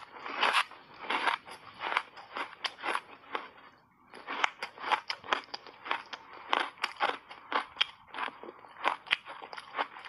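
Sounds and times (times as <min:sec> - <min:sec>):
ice crunching between teeth: 0:00.0 - 0:10.0.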